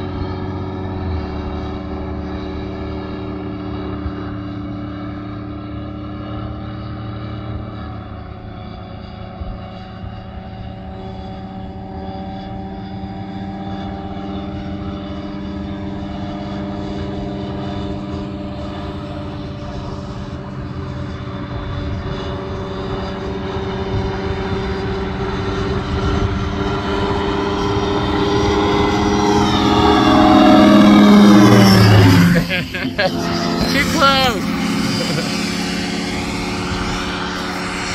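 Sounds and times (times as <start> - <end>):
ultralight plane engine droning: 0.0 - 37.9.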